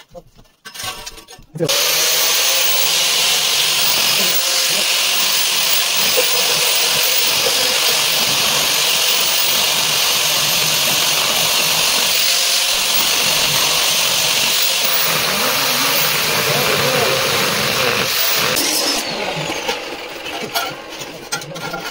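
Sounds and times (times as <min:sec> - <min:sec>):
power drill running: 0:01.7 - 0:21.3.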